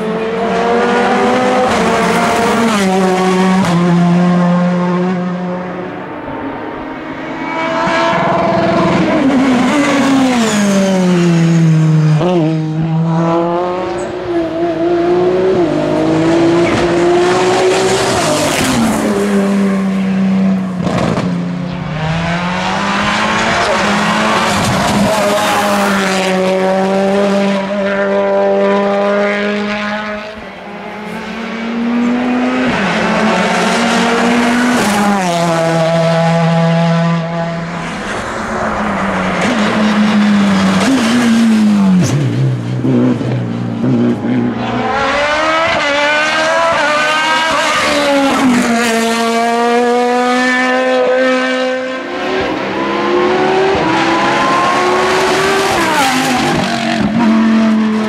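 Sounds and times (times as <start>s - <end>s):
race car engines revving high: 0.0s - 58.0s.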